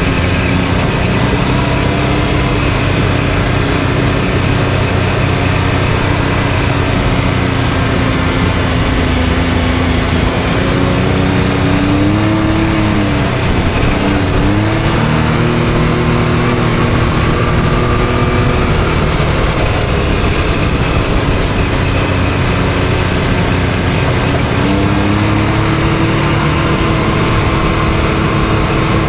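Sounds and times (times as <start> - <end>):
off-road vehicle engine revving: 0.0 - 29.0
steady rushing noise: 0.0 - 29.0.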